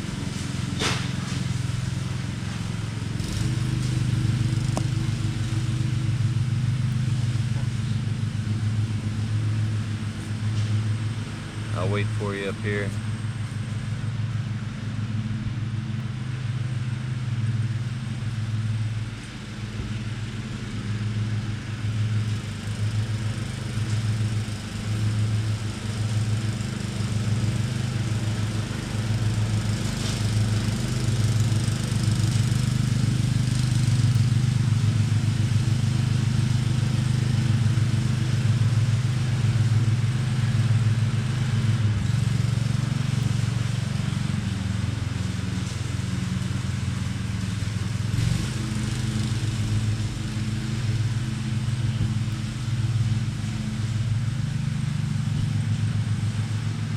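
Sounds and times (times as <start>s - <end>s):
low motor hum: 0.0s - 56.9s.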